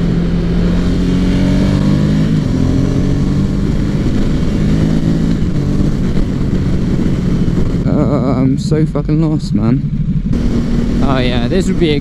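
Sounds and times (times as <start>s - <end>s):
motorcycle engine running: 0.0s - 12.0s
wind rush over microphone: 0.0s - 12.0s.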